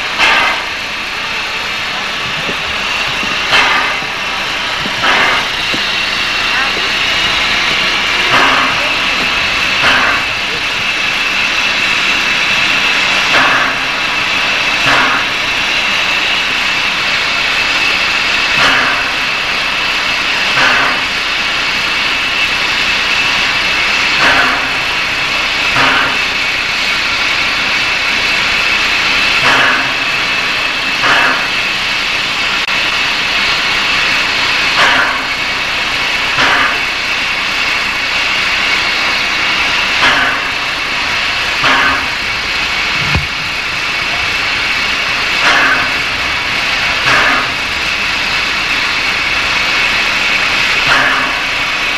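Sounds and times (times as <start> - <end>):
steam locomotive hissing: 0.0 - 51.9.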